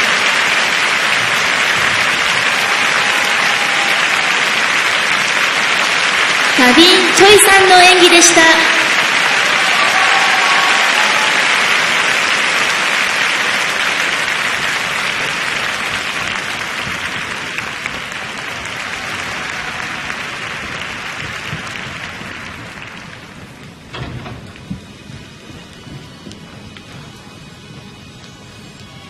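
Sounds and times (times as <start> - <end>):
audience applauding: 0.0 - 27.1.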